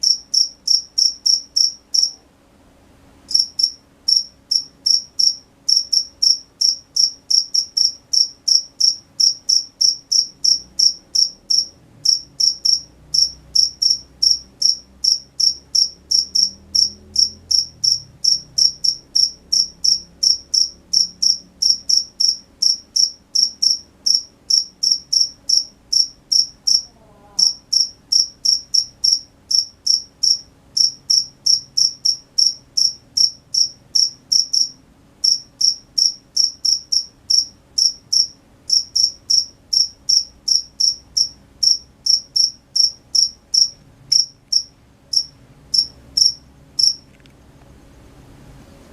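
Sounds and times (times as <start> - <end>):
cricket chirping: 0.0 - 2.2, 3.3 - 47.2.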